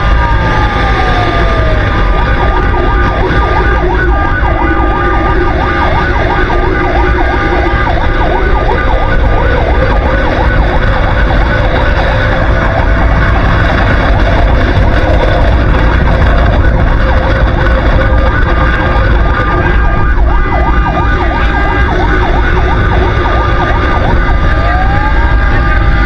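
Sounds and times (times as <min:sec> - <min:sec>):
fire truck siren yelping: 0:00.0 - 0:26.0
truck engine rumble: 0:00.0 - 0:26.0.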